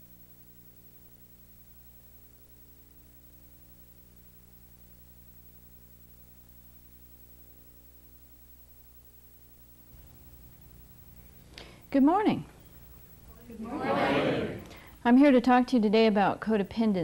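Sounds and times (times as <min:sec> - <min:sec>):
faint electrical hum with hiss: 0:00.0 - 0:17.0.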